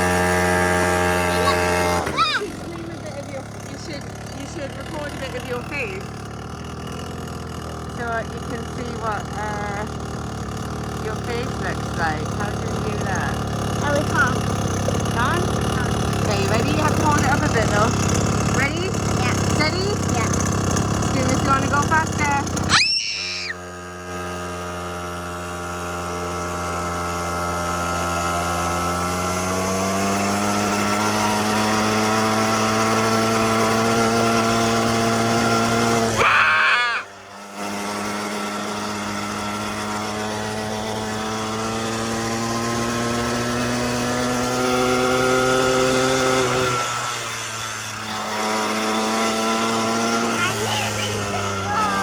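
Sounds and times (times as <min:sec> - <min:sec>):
quad bike engine running: 0:00.0 - 0:52.0.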